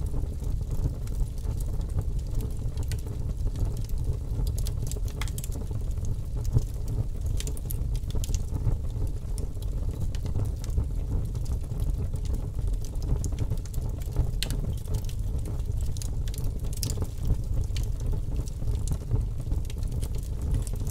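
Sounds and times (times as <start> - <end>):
fire crackling and popping: 0.0 - 20.9
low rumble of flames: 0.0 - 20.9.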